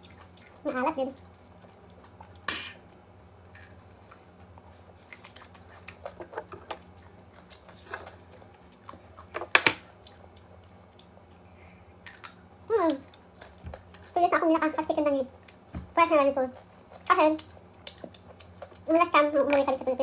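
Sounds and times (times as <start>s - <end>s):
crunchy chewing: 0.0s - 14.2s, 16.6s - 19.6s.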